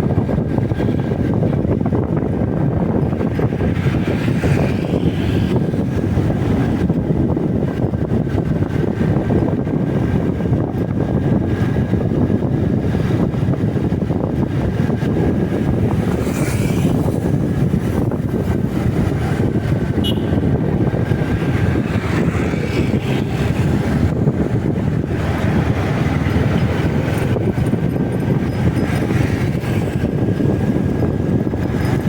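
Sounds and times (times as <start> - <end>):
motorcycle engine and road noise: 0.0 - 32.0
wind rushing over microphone: 0.0 - 32.0.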